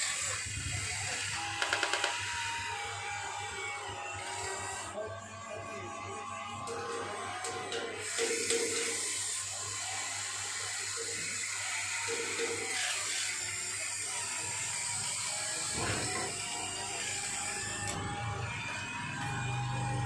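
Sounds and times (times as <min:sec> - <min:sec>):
toy electric motors whirring: 0:00.0 - 0:20.0.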